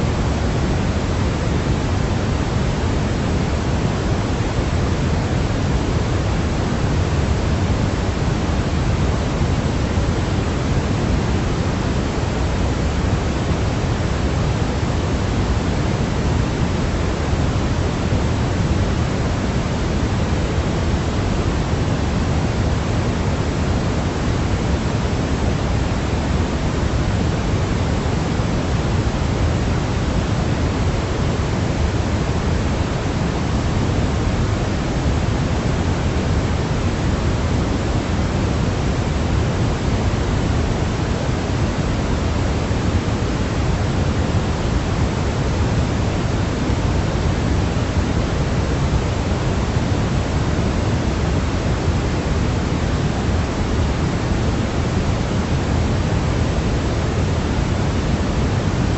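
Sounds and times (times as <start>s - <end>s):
white noise: 0.0s - 58.9s.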